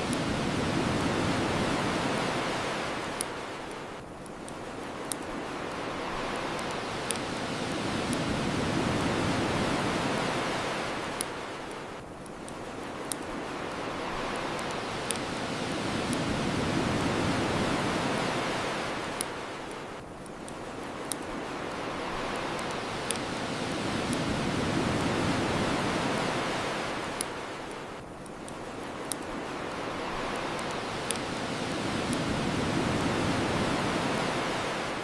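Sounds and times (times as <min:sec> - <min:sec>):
ocean waves washing onto shore: 0:00.0 - 0:35.0
bonfire crackling pops: 0:00.1 - 0:18.3, 0:19.1 - 0:34.3.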